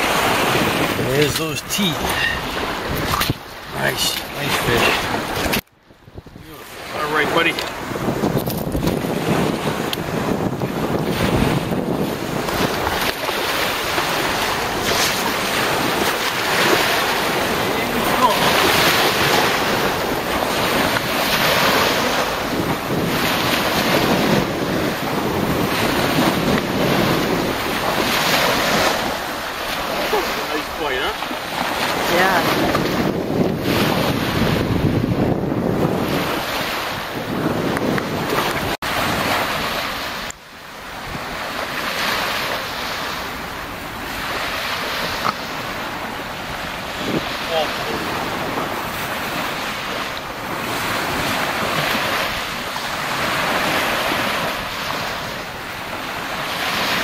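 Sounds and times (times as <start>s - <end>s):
small waves breaking on shore: 0.0s - 57.0s
wind buffeting microphone: 0.0s - 57.0s.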